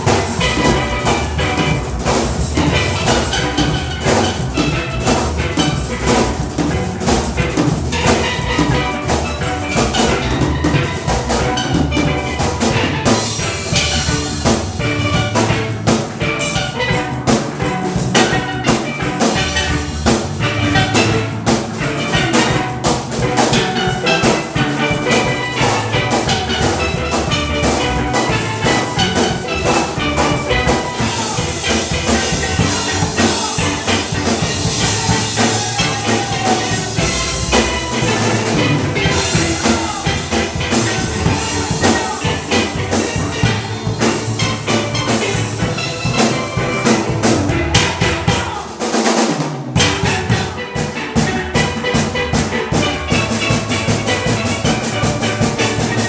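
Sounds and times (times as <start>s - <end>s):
steel drum band playing: 0.0s - 56.0s.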